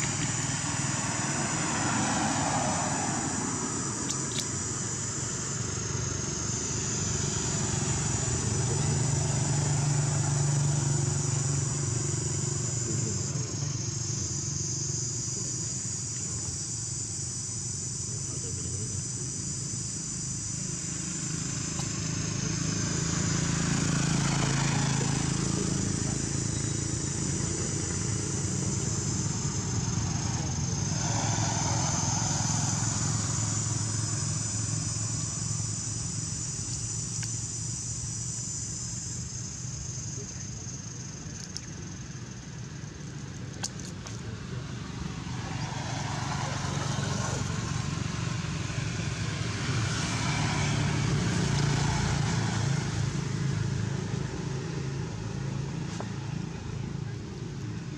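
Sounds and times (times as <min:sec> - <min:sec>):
high-pitched insect drone: 0:00.0 - 0:57.9
low engine rumble: 0:00.0 - 0:57.9.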